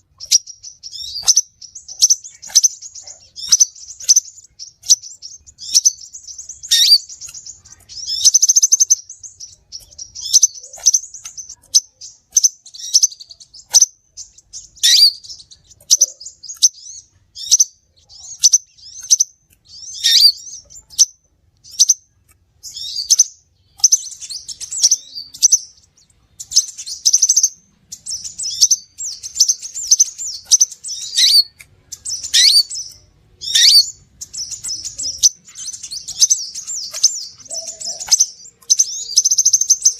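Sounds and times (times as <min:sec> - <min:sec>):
bird chirps and buzzy trills: 0:00.0 - 0:39.9.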